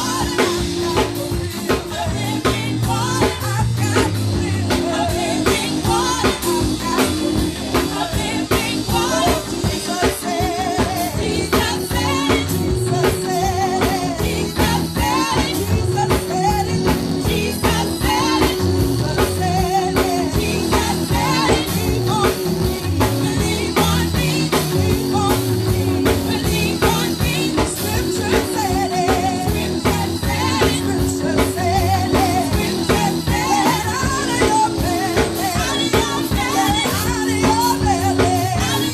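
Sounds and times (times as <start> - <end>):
band playing: 0.0 - 38.9
choir singing worship song: 0.0 - 38.9
drum kit beat: 0.0 - 38.9.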